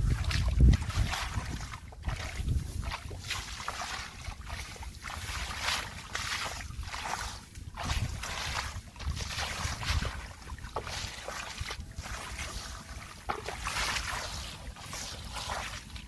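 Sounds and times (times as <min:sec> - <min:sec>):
muddy water sloshing: 0:00.0 - 0:16.0
wind on microphone: 0:00.0 - 0:16.0.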